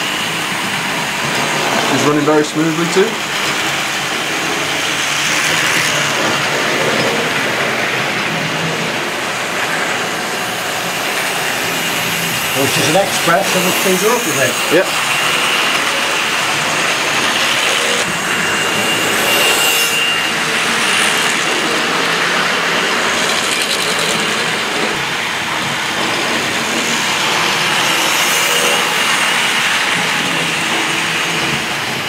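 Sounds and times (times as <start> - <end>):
wheels rattling on track: 0.0 - 32.0.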